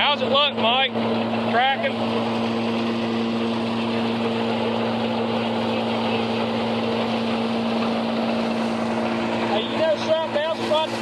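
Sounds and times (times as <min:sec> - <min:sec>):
tractor driving silage chopper: 0:00.0 - 0:11.0.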